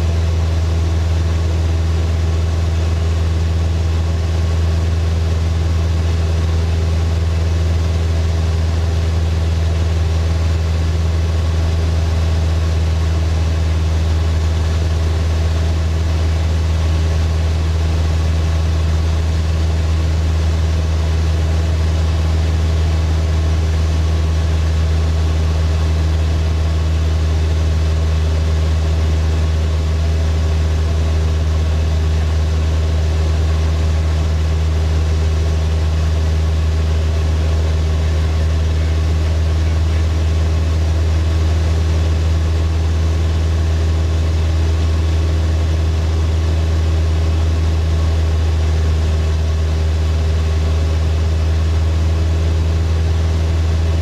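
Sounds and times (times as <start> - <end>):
propeller plane engine hum: 0.0 - 54.0.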